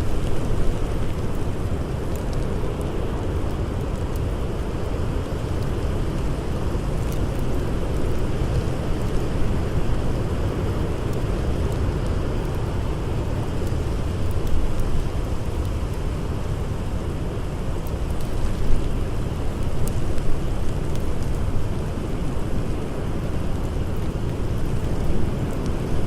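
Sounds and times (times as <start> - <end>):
blizzard wind howling: 0.0 - 26.0
faint campfire crackles: 0.0 - 26.0.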